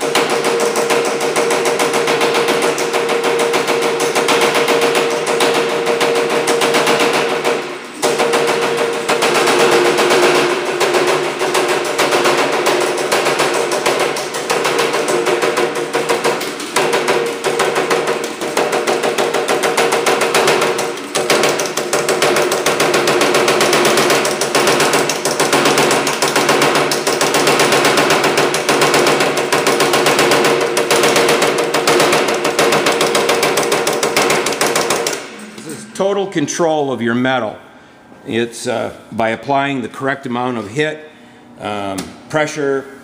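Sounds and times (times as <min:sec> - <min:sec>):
power hammer striking metal: 0:00.0 - 0:37.0.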